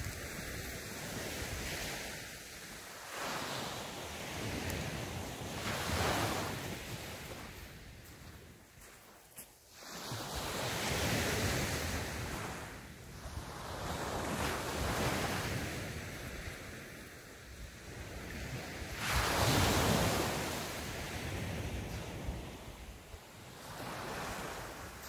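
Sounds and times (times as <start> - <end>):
small waves breaking on beach: 0.0 - 25.0.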